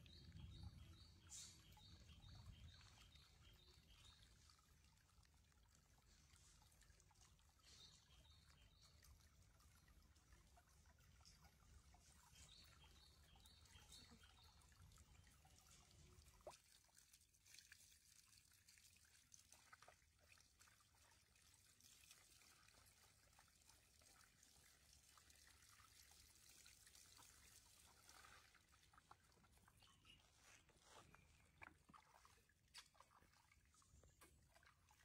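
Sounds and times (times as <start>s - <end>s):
small ticks and splashes: 0.0s - 35.0s
water trickling: 0.0s - 35.0s.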